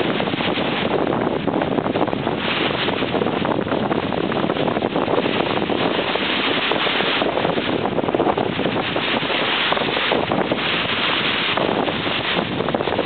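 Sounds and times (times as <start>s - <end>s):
small waves on pebbly shore: 0.0s - 13.0s
wind buffeting microphone: 0.0s - 13.0s.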